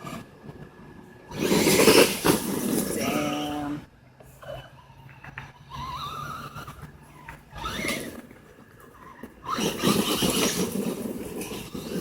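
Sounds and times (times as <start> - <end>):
tyre noise on ground: 0.0 - 12.0.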